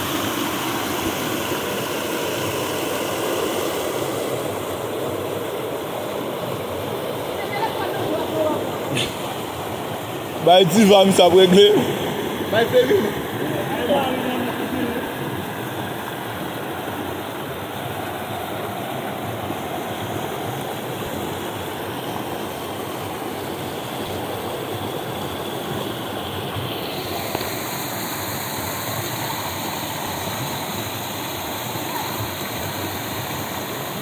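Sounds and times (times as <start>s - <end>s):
river water rushing over rocks: 0.0s - 34.0s.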